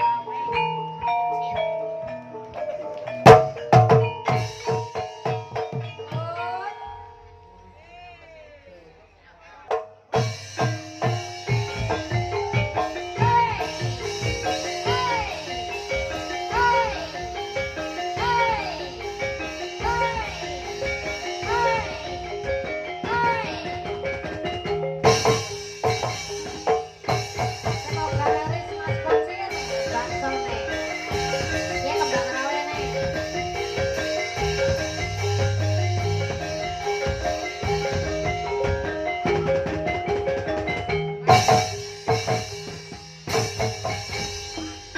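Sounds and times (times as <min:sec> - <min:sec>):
drum strokes: 0:00.0 - 0:06.5, 0:09.7 - 0:44.9
mallet-struck tuned keys: 0:00.0 - 0:07.9, 0:10.1 - 0:44.9
gamelan music: 0:00.0 - 0:08.5, 0:09.8 - 0:44.9.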